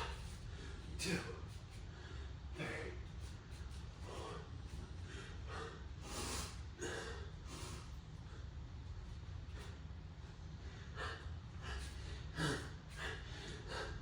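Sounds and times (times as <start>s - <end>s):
man breathing hard: 0.0s - 14.0s
steady low hum: 0.0s - 14.0s.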